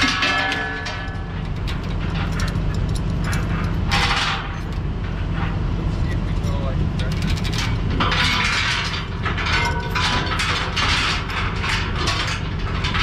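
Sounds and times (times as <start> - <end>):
steady low hum: 0.0 - 13.0
chain rattling: 0.2 - 4.8, 6.5 - 13.0.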